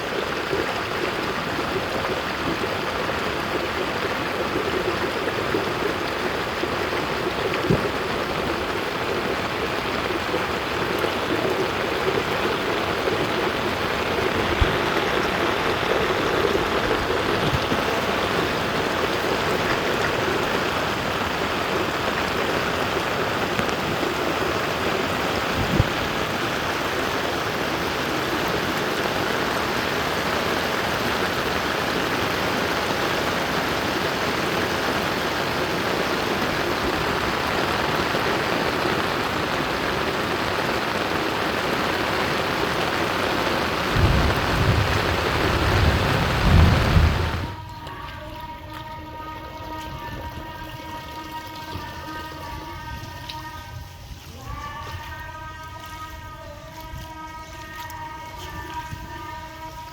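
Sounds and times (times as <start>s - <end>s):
floodwater rushing down storm drain: 0.0s - 59.9s.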